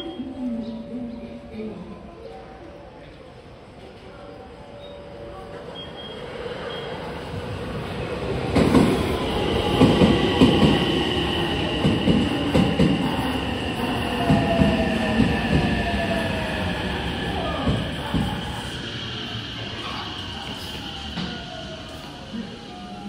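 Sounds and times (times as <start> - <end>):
electric train arriving: 0.0 - 23.0.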